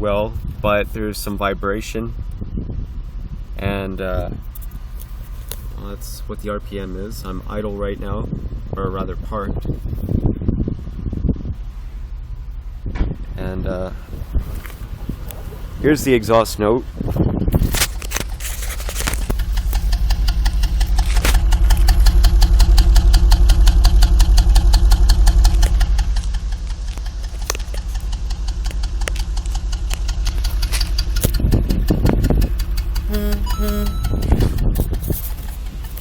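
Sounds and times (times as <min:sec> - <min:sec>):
car exhaust idling roughly: 0:00.0 - 0:36.0.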